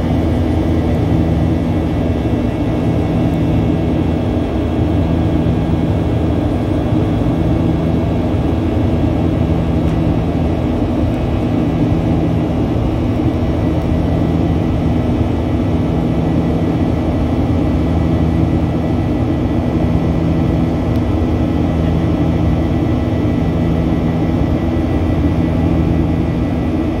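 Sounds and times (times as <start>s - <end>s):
constant low hums: 0.0s - 27.0s
jet engines droning: 0.0s - 27.0s.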